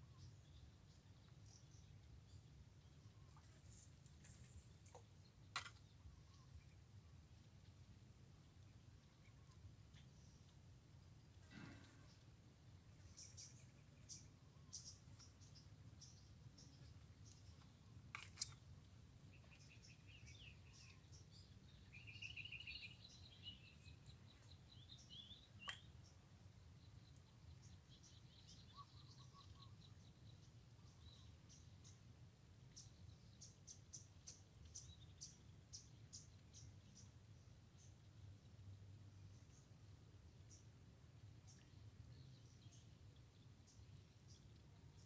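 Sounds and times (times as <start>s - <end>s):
songbirds chirping and trilling: 0.0s - 45.0s.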